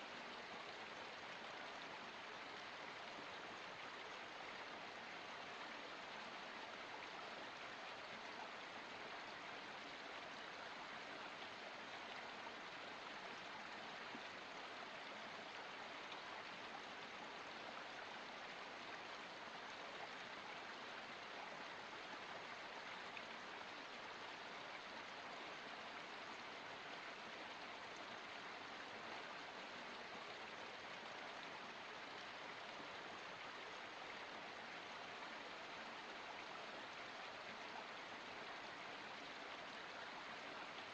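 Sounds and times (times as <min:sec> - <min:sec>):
forest stream running: 0:00.0 - 0:40.9.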